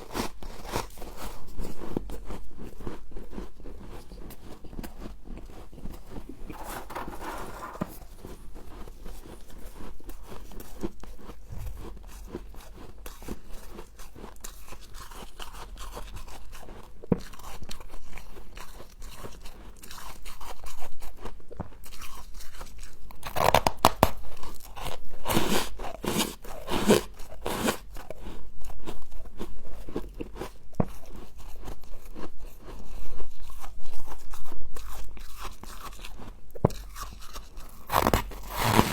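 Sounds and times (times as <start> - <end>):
frost being chewed crunching: 0.0 - 38.9.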